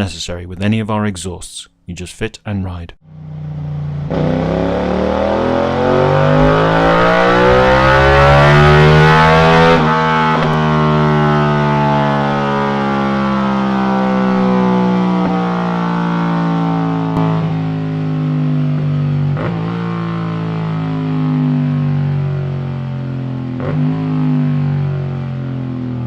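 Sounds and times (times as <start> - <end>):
motorcycle engine revving: 3.0 - 26.0.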